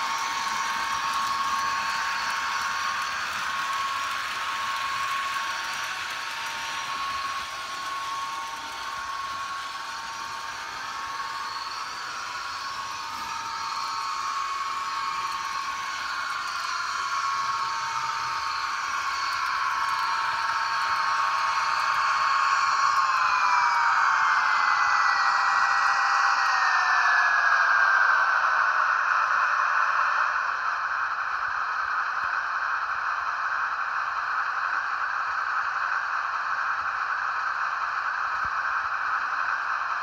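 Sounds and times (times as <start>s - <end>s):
model locomotive whirring: 0.0s - 40.0s.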